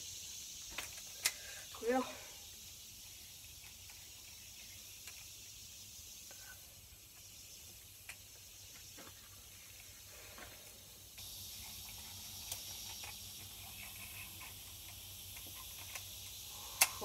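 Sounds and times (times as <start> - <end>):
high-pitched outdoor hiss: 0.0 - 17.0.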